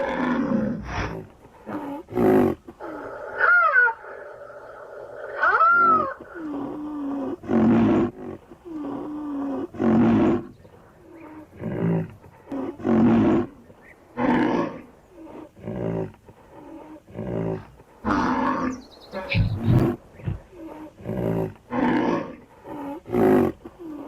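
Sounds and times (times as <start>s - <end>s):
rhinoceros bellowing: 0.0s - 24.0s
rhinoceros moaning: 0.0s - 24.0s.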